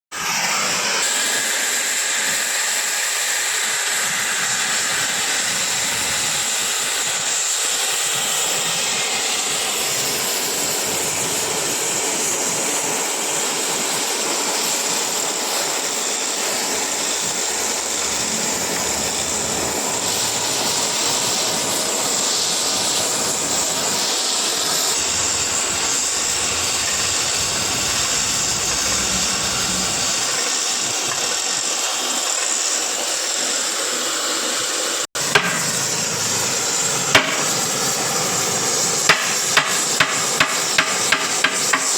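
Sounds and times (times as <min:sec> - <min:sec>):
cutting torch hissing: 0:00.1 - 0:41.9.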